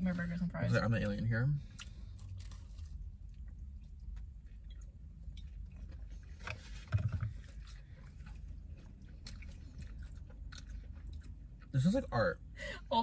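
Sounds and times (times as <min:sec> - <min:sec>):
steady low hum: 0:00.0 - 0:13.0
people chewing food: 0:00.6 - 0:12.4.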